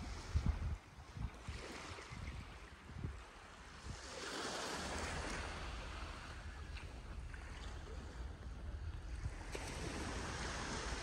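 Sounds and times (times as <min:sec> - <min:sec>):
small waves lapping on sand: 0:00.0 - 0:11.0
wind buffeting microphone: 0:00.0 - 0:11.0.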